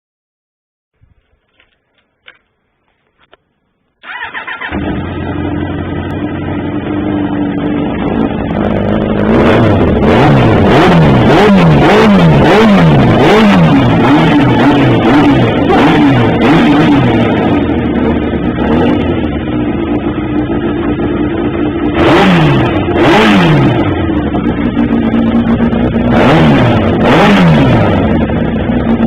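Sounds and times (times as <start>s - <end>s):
motorcycle engine starting and idling: 1.0s - 29.0s
motorcycle engine revving: 4.0s - 29.0s.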